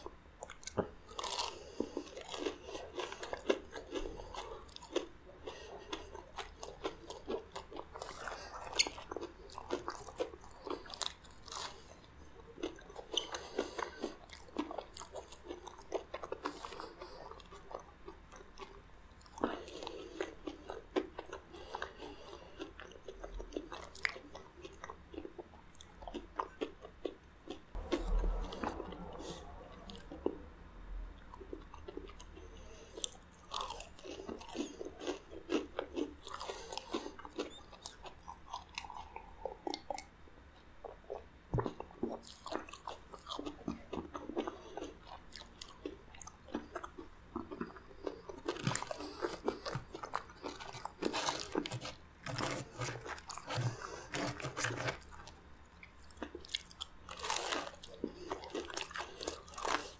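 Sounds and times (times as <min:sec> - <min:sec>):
crunching of crispy fried food: 0:00.4 - 0:30.4, 0:31.3 - 0:40.1, 0:40.9 - 0:59.9.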